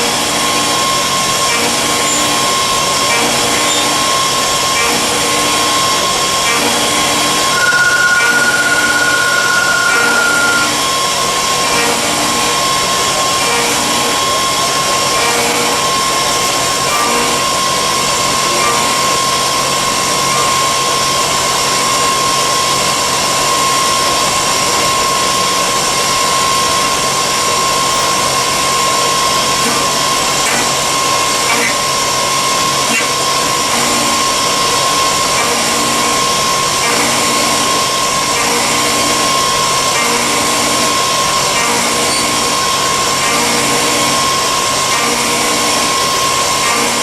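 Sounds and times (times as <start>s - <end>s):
higher machine whine: 0.0s - 47.0s
lathe machine whine: 0.0s - 47.0s.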